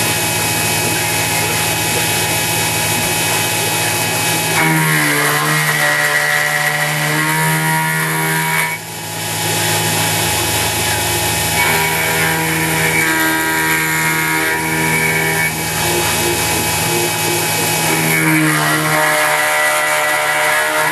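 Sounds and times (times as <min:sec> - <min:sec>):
milling machine cutting metal: 0:00.0 - 0:20.9
stepper motor whines: 0:00.0 - 0:20.9.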